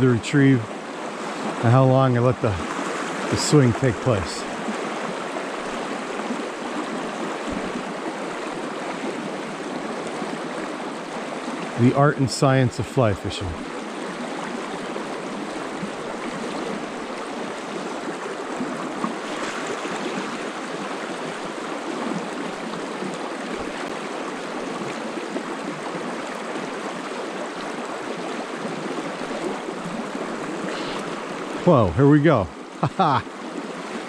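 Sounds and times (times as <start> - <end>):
stream running over rocks: 0.0 - 34.0.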